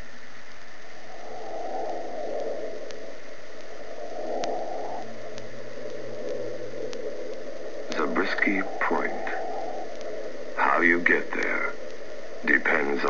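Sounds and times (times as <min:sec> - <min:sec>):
faint clicks: 0:00.0 - 0:13.0
low hum: 0:00.0 - 0:13.0
steady noise: 0:00.0 - 0:13.0.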